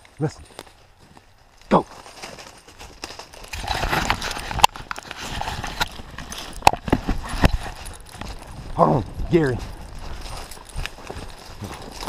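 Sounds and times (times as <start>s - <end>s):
running footsteps in dry leaves: 0.0s - 12.0s.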